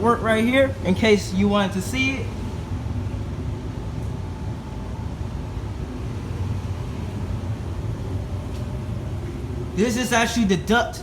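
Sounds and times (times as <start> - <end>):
gas furnace running: 0.0 - 11.0.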